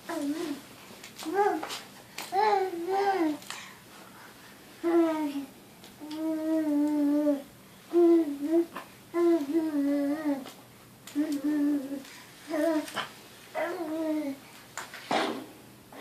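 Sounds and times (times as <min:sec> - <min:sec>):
toddler humming engine noises: 0:00.0 - 0:03.5, 0:04.8 - 0:14.5.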